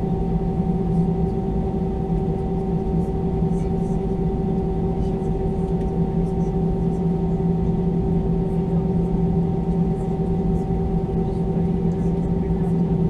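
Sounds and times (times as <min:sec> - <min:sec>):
low cabin rumble: 0:00.0 - 0:13.0.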